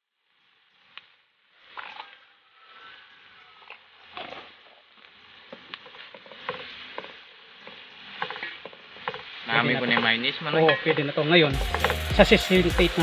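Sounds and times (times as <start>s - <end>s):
food sizzling in a wok: 0.0s - 13.0s
spatula scraping a pan: 0.5s - 13.0s.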